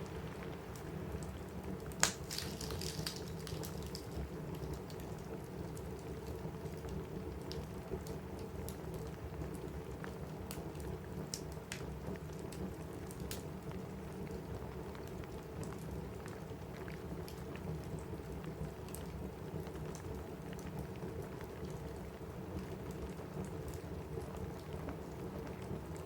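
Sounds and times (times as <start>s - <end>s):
rain on a roof: 0.0s - 26.0s
wood fire crackling: 0.0s - 26.0s.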